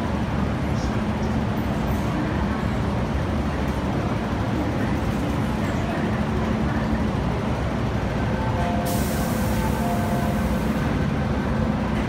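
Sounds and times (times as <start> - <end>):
metro train low rumble: 0.0 - 12.0.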